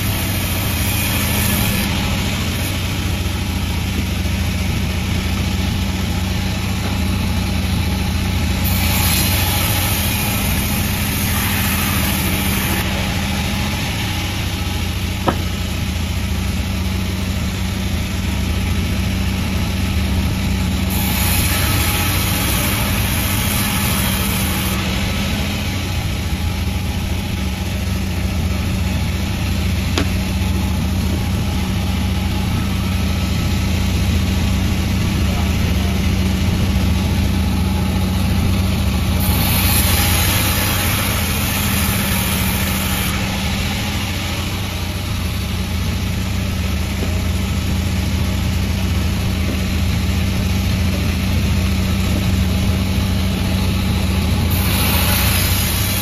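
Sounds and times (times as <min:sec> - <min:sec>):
saw blade cutting log hiss: 0:00.0 - 0:17.0, 0:20.9 - 0:48.2, 0:51.2 - 0:56.0
sawmill engine hum: 0:00.0 - 0:56.0.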